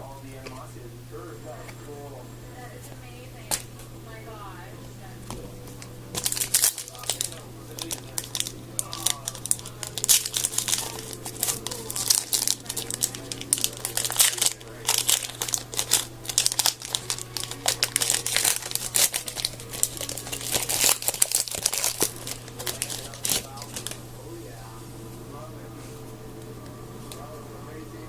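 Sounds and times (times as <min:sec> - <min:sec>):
card pack wrappers crinkling: 0:02.6 - 0:25.2.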